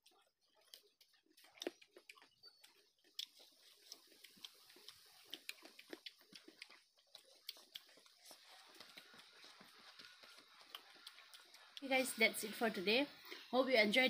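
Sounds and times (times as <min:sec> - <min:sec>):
wet chewing and lip smacks: 0:00.0 - 0:12.6, 0:13.2 - 0:13.5.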